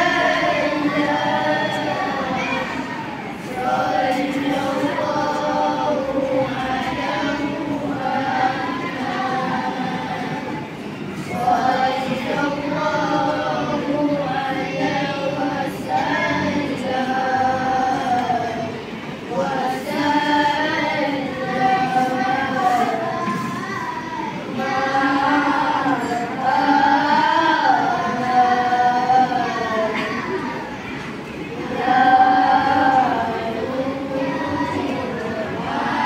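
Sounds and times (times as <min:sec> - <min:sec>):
boys singing devotional chant: 0:00.0 - 0:36.0.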